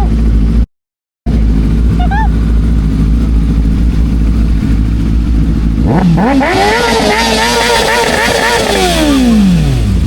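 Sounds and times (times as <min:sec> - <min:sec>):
motorcycle engine idling and revving: 0:00.0 - 0:00.7, 0:01.3 - 0:10.0.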